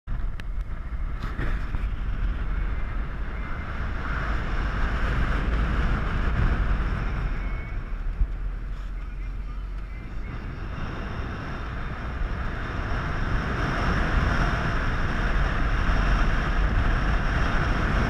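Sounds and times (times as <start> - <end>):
road noise: 0.0 - 18.0
car engine: 0.1 - 18.0
wind rumble on microphone: 0.1 - 18.0.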